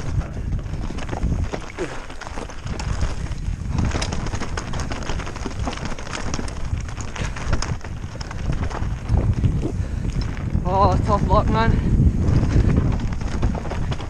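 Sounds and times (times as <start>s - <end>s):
bike tyres rolling over gravel: 0.0s - 14.0s
stones clicking and bike rattling: 0.0s - 14.0s.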